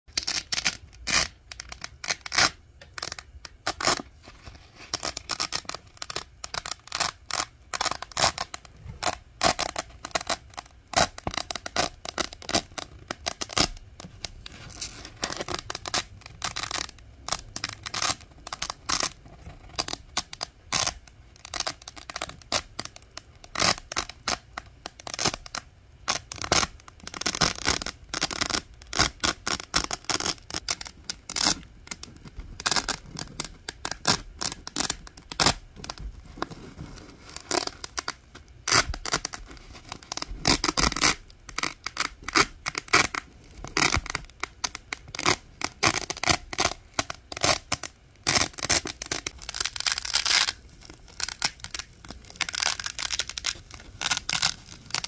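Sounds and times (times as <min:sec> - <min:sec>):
velcro being peeled apart: 0:00.1 - 0:55.0.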